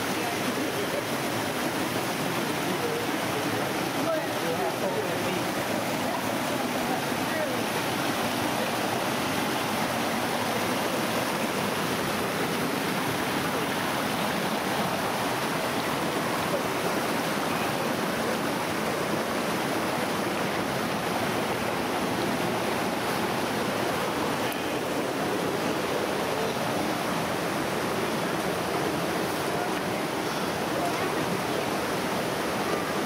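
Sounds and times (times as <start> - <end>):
creek rushing over boulders: 0.0 - 33.0.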